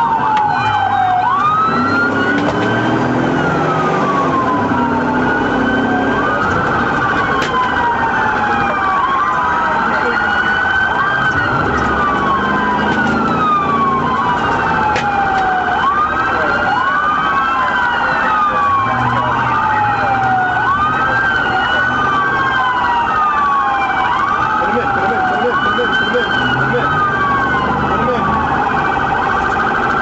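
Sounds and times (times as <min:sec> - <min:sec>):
car engine and road noise: 0:00.0 - 0:30.0
police sirens wailing: 0:00.0 - 0:30.0.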